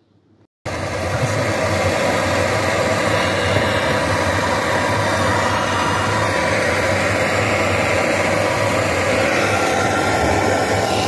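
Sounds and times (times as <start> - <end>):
loud mechanical whirring: 0.7 - 11.0
low hum: 0.7 - 11.0.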